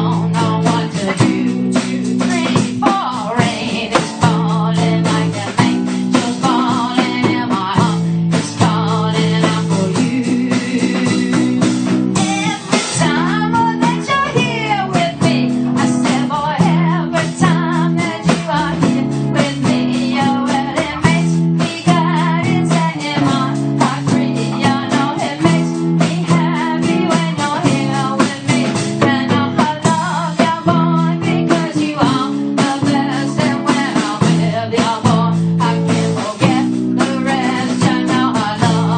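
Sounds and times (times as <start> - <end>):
bending lead guitar line: 0.0 - 38.9
live band playing blues-rock: 0.0 - 38.9.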